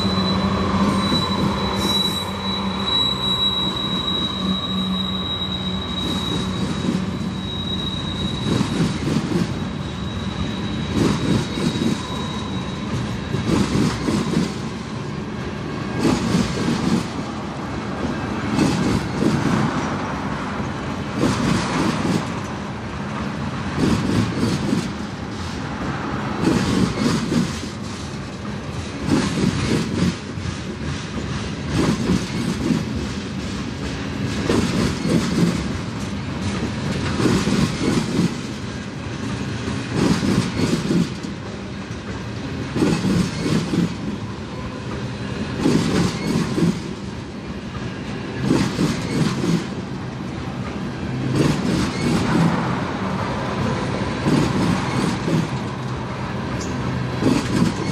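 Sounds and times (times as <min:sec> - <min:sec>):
train wheels clacking on rails: 0:00.0 - 0:15.0, 0:15.7 - 0:44.2, 0:44.8 - 0:57.9.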